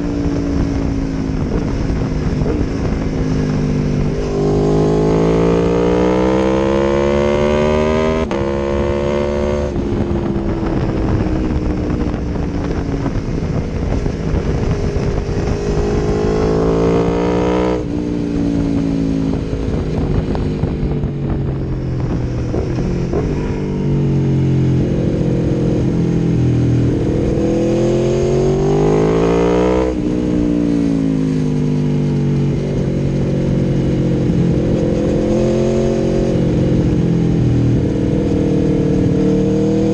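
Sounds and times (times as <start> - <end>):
motorcycle engine revving under load: 0.0 - 39.9.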